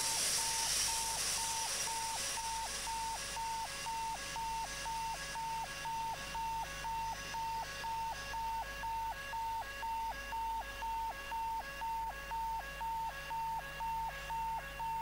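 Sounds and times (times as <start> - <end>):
electronic two-tone warning: 0.0 - 15.0.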